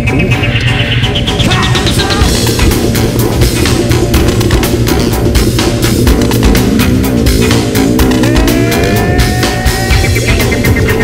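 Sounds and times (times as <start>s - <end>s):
loud music with drums: 0.0s - 11.0s.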